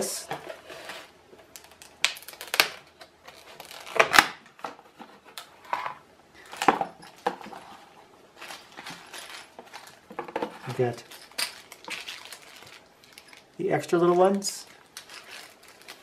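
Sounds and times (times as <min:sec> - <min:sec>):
plastic packaging crackling: 0:01.4 - 0:05.6, 0:06.4 - 0:16.0.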